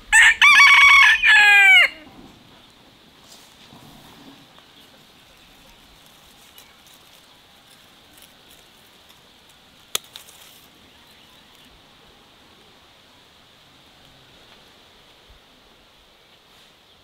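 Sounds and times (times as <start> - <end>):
garden ambience: 0.0 - 17.0.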